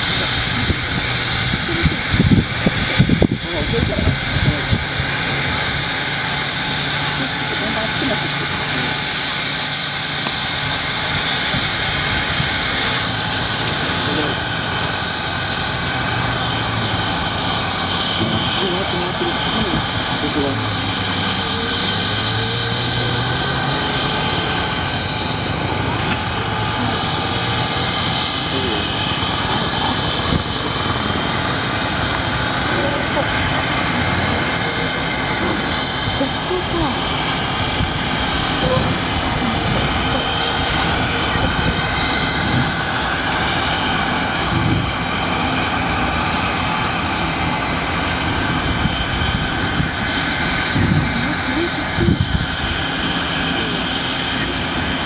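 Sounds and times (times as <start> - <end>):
high-pitched tone: 0.0 - 47.7, 48.6 - 54.7
low hum: 0.0 - 55.0
steam hissing: 0.0 - 55.0
thin high whine: 0.0 - 55.0.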